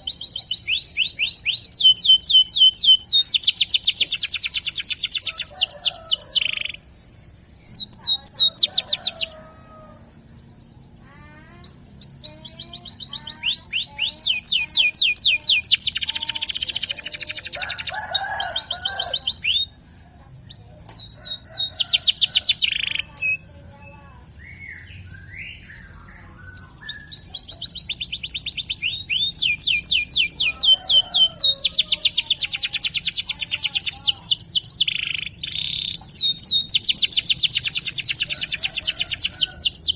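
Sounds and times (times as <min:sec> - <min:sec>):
canary singing rolling trills: 0:00.0 - 0:39.9.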